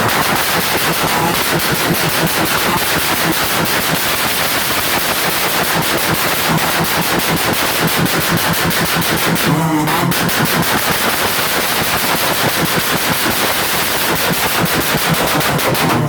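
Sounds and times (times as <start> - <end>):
car exhaust pops and bangs: 0.0 - 16.0.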